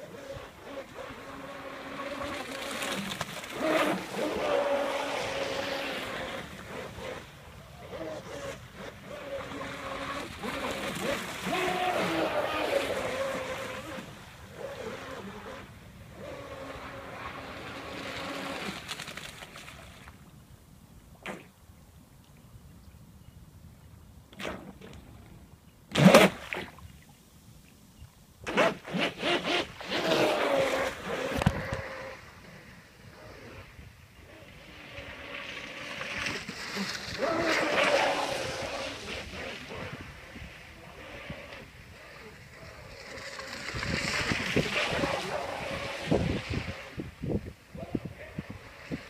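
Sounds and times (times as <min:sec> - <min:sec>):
water splashing: 0:00.0 - 0:20.2, 0:28.5 - 0:49.0.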